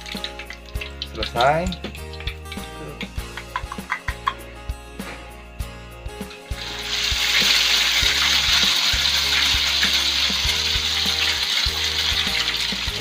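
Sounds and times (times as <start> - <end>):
egg sizzling in hot oil: 0.0 - 4.3, 6.2 - 13.0.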